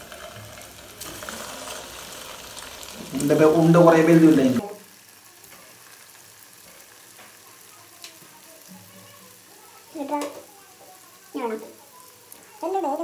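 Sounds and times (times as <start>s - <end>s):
dough deep-frying in oil: 0.0s - 13.0s.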